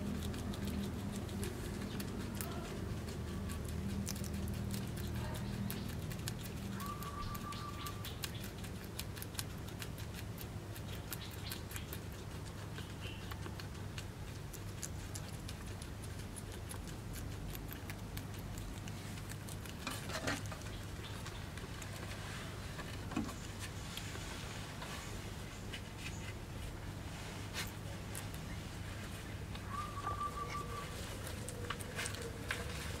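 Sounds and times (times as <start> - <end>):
guinea pig chewing cucumber: 0.0 - 33.0.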